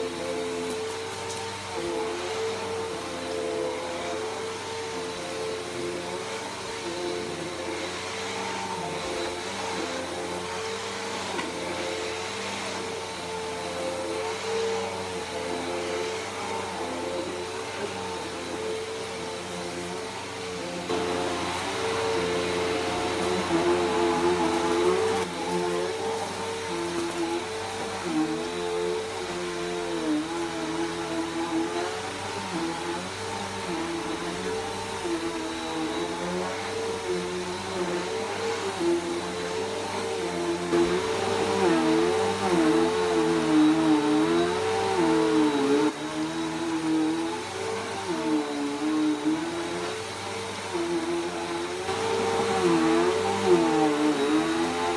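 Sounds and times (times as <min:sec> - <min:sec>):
upright vacuum cleaner running: 0:00.0 - 0:54.9.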